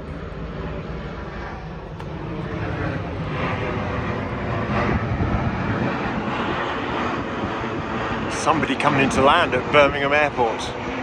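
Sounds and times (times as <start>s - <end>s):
aeroplane engine rushing: 0.0s - 11.0s.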